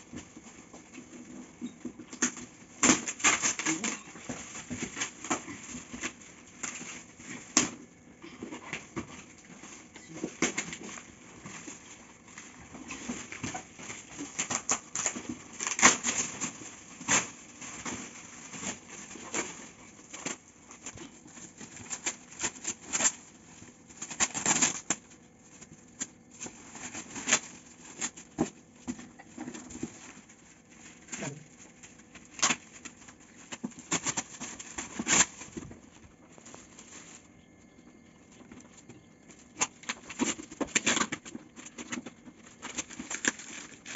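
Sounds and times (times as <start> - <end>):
gift wrapping crinkling: 0.0 - 43.9.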